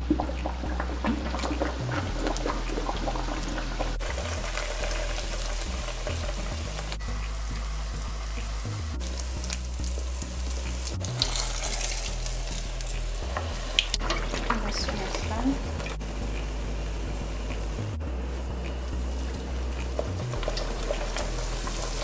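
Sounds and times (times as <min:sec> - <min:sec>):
dough sizzling in hot oil: 0:00.0 - 0:22.0.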